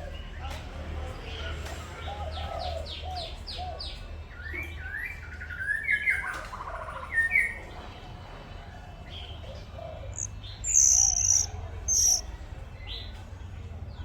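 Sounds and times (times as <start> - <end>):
songbirds singing: 1.9 - 14.0.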